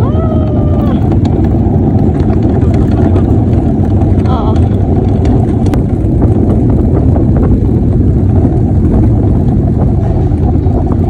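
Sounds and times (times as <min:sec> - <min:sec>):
wheels rumbling on asphalt: 0:00.0 - 0:11.0.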